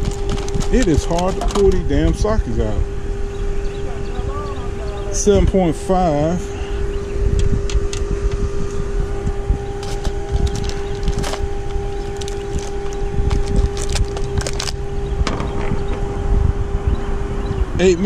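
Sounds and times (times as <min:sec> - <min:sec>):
low rumble: 0:00.0 - 0:18.0
steady hum: 0:00.0 - 0:18.0.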